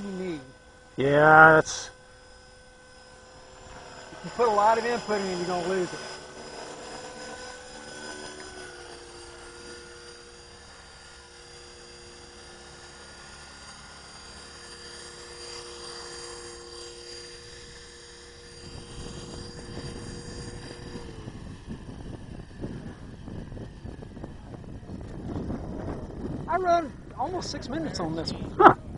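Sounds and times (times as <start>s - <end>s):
rc helicopter rotors whining: 0.0s - 28.9s.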